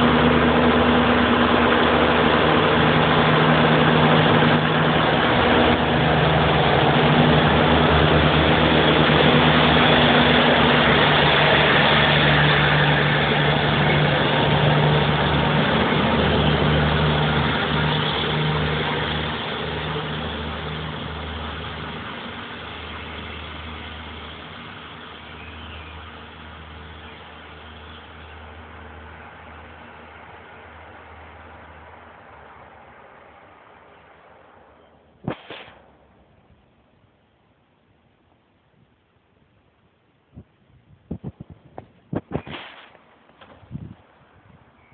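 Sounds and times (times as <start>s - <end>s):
diesel railcar engines humming: 0.0s - 35.2s, 42.8s - 44.9s.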